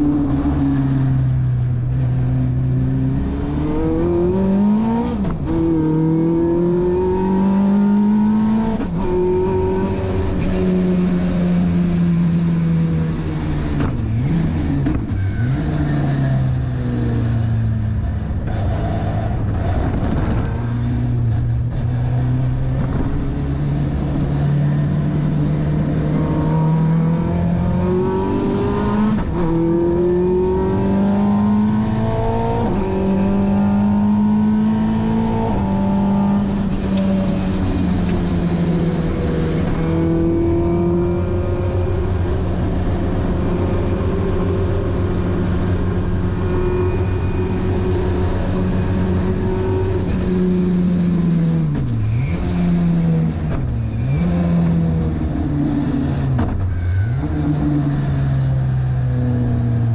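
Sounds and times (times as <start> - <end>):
race car engine revving: 2.0 - 56.6.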